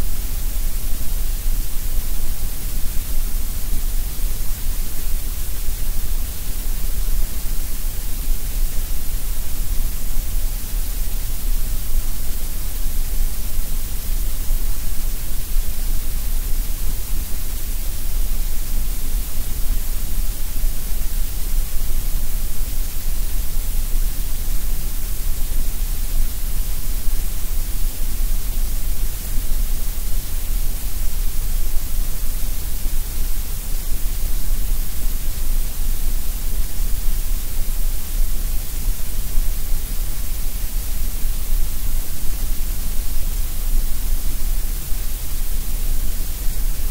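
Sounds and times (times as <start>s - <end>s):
steady hiss: 0.0s - 46.9s.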